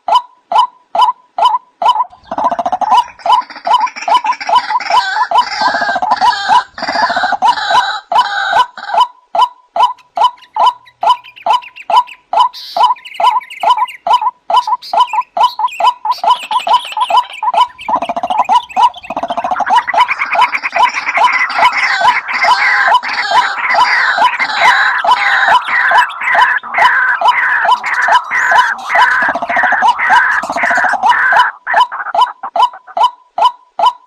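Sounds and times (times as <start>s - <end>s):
harsh overlapping bird calls: 0.0s - 34.0s
waterhen croaking calls: 0.0s - 34.0s.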